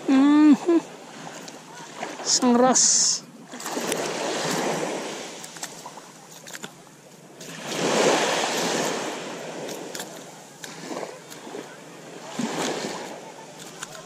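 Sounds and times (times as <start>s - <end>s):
waves washing on sandy beach: 0.0s - 14.0s.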